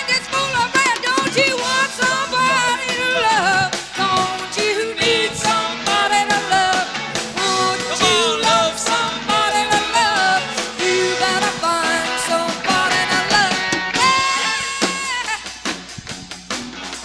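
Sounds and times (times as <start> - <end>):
person singing: 0.0 - 15.5
live rock band playing: 0.0 - 17.0.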